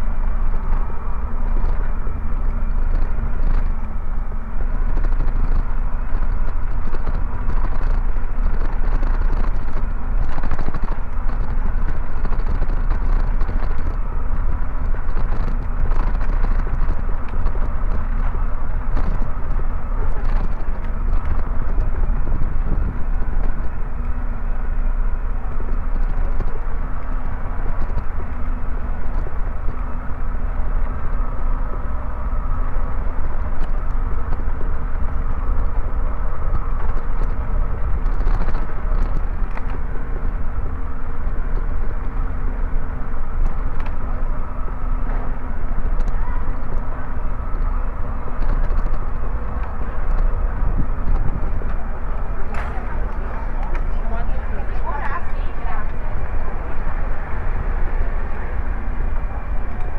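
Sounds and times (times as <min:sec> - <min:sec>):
bicycle tyres rattling on bricks: 0:00.0 - 0:59.9
deep low rumble: 0:00.0 - 0:59.9.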